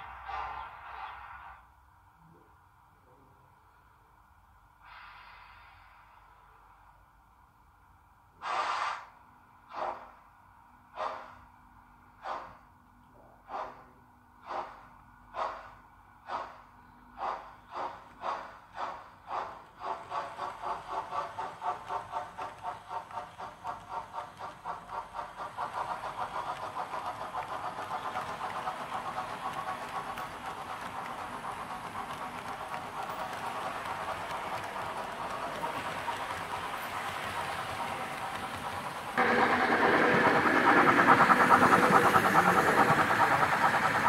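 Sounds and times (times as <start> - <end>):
model steam locomotive chuffing: 0.0 - 1.7, 9.7 - 12.8, 13.4 - 44.0.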